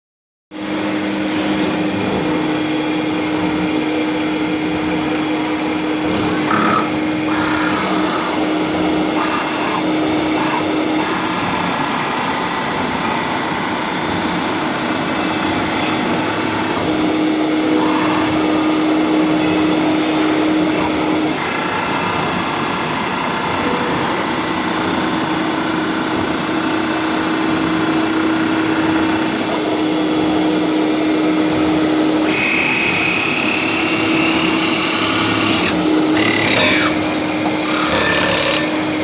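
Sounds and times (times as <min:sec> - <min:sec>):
lathe machine hum: 0:00.6 - 0:39.0.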